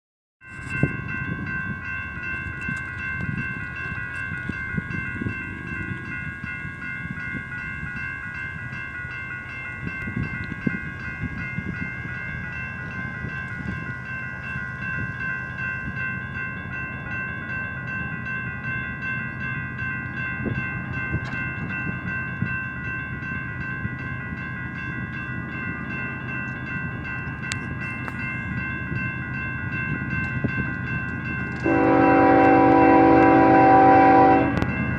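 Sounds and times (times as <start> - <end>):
railroad crossing bell ringing: 0.4 - 34.9.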